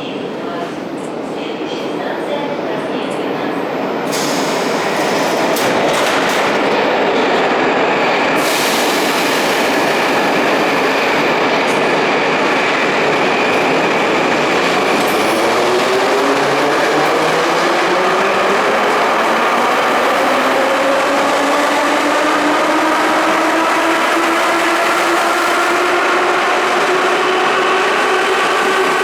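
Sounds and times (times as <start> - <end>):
metro train wheels rumbling: 0.0 - 29.0
rising train whine: 0.0 - 29.0.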